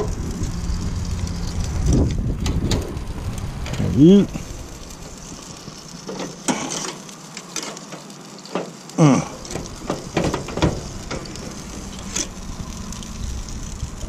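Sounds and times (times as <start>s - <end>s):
meat sizzling: 0.0s - 14.0s
tongs scraping grill grate: 0.0s - 14.0s.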